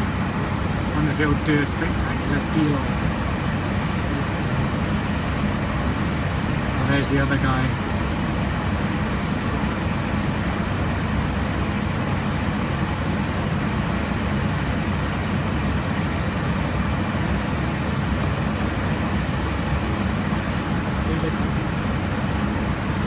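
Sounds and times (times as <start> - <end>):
airliner cabin air and engine noise: 0.0 - 23.0.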